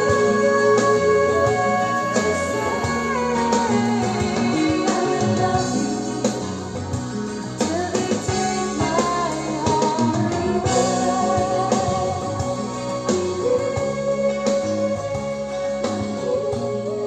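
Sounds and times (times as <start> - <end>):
song with guitar and drums: 0.0 - 17.0.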